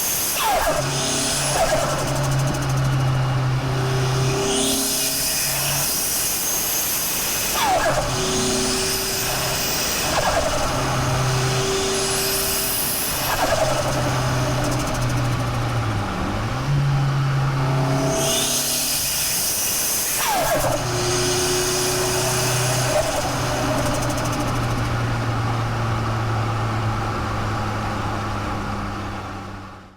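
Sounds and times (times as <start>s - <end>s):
car engine idling and revving: 0.4s - 6.1s, 7.6s - 19.3s, 20.2s - 29.9s.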